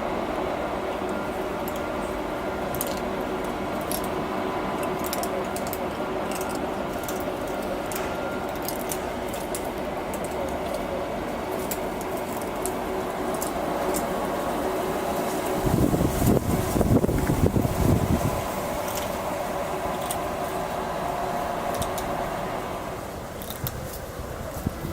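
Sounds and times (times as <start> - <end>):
steady background hum: 0.0 - 24.9
cat chewing and licking: 0.9 - 22.6, 23.3 - 24.9.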